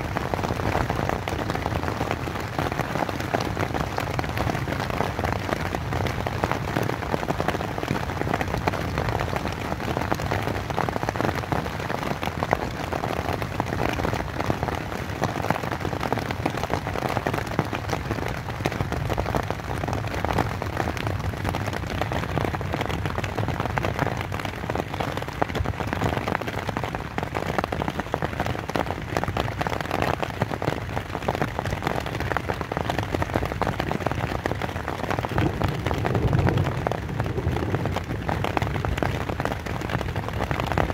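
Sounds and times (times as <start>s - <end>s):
rain drumming on tent: 0.0s - 40.9s.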